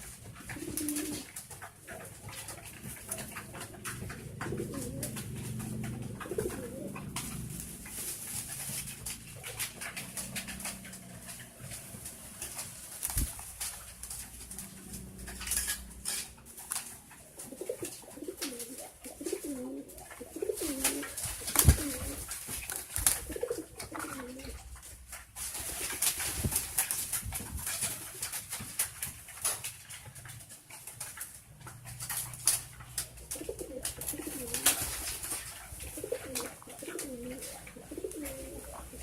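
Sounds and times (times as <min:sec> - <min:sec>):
pigeons cooing: 0:00.0 - 0:39.0.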